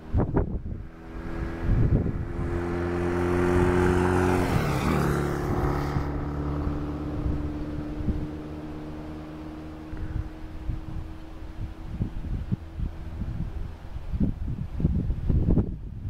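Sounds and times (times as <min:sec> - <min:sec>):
motor engine drone passing: 0:00.0 - 0:14.4.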